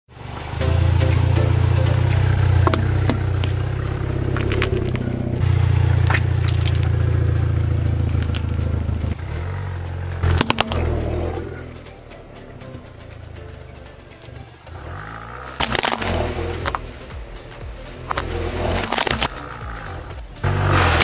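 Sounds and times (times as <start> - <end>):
car engine running: 0.1 - 21.0
sharp cracks: 1.1 - 21.0
rubber balls crackling under tyre: 1.8 - 21.0.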